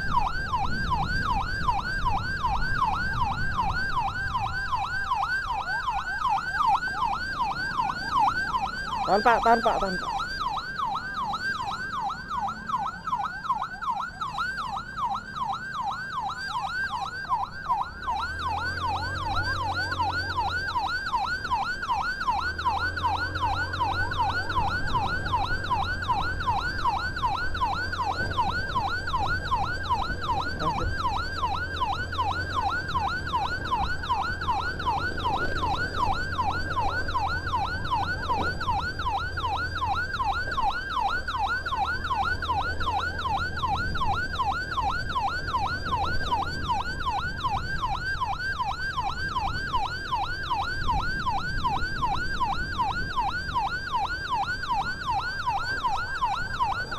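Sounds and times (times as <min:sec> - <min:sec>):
ambulance siren yelping: 0:00.0 - 0:56.9.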